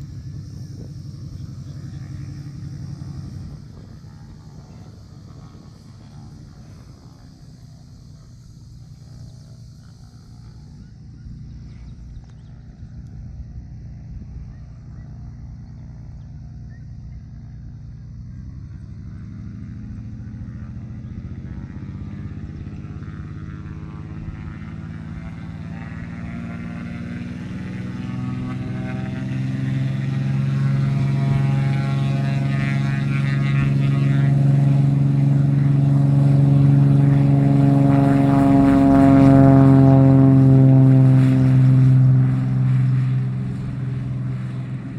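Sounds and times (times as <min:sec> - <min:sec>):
plane engine and propeller droning: 0:00.0 - 0:44.9.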